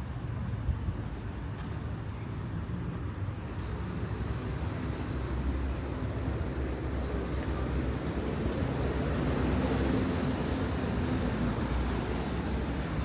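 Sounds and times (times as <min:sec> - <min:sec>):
street traffic rumble: 0:00.2 - 0:13.0.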